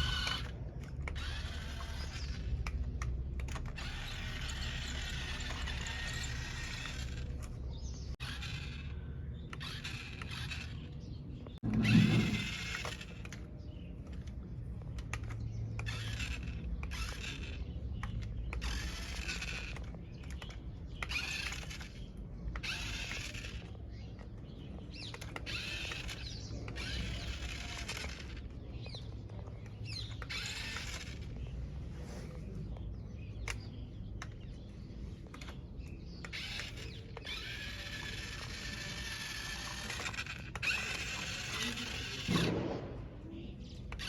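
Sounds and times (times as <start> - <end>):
small electric motor whirring: 0.0 - 32.4, 33.4 - 44.0.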